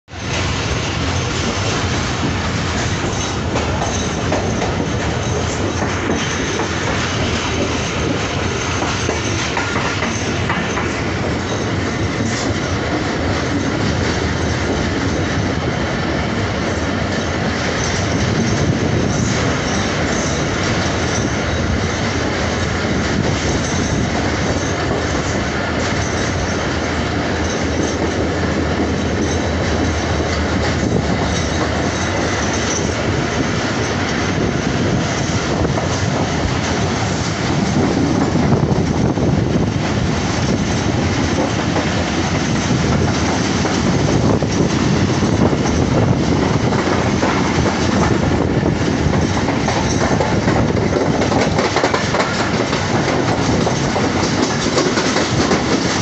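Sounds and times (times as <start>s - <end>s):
train wheels running on rails: 0.1s - 56.0s.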